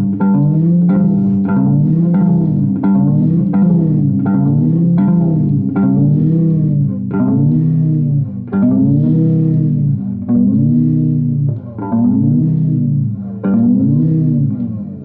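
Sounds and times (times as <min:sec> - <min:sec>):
bass guitar note bends: 0:00.0 - 0:15.0.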